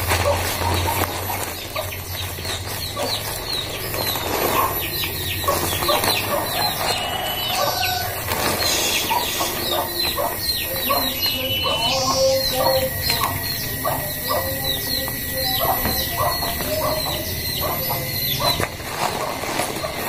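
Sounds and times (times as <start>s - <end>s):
birds chirping: 0.0s - 20.0s
plastic bag crinkling: 0.0s - 20.0s.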